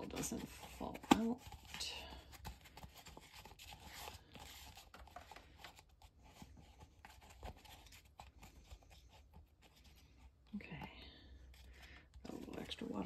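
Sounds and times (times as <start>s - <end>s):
paper filter rustling and crinkling: 0.0s - 13.0s.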